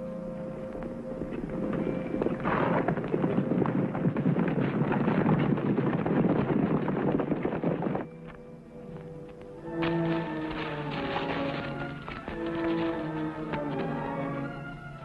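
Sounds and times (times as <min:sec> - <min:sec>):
galloping horse hoofbeats: 0:00.8 - 0:08.4, 0:09.0 - 0:15.0.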